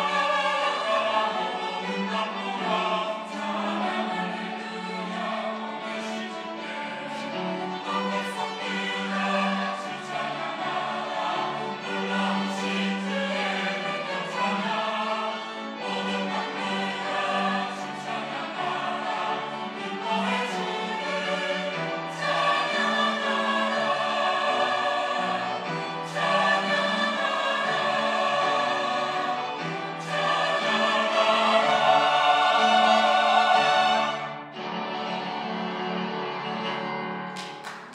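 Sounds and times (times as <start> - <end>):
church choir singing: 0.0 - 37.9.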